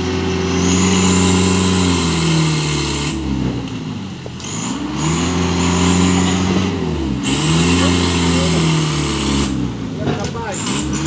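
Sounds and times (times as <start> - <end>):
diesel engine revving high: 0.0 - 11.0.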